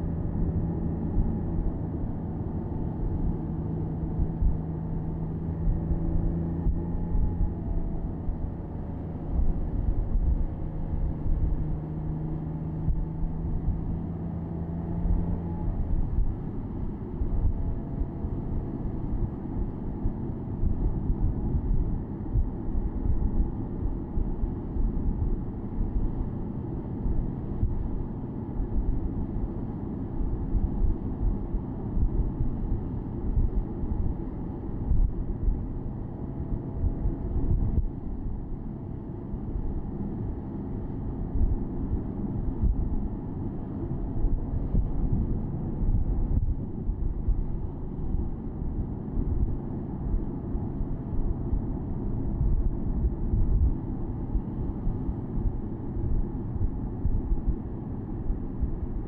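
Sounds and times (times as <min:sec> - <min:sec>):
car engine rumble: 0:00.0 - 0:59.0
steady engine hum: 0:00.0 - 0:59.0.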